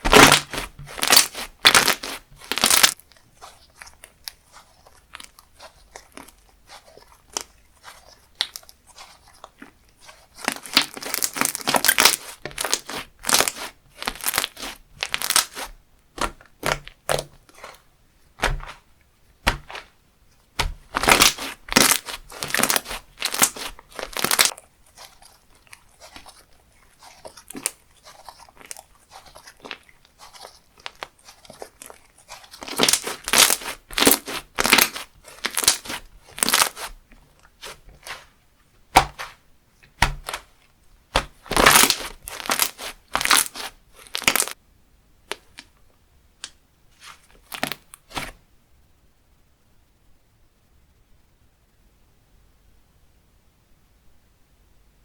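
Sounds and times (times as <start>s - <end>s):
slime squished by hand: 0.0s - 44.6s, 46.5s - 48.4s.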